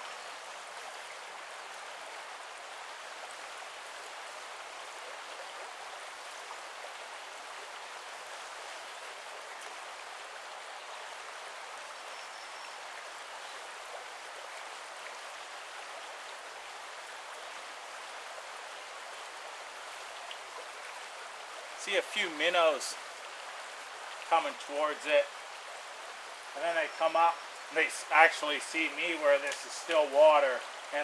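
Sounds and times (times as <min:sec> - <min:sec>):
brook water flowing: 0:00.0 - 0:31.0.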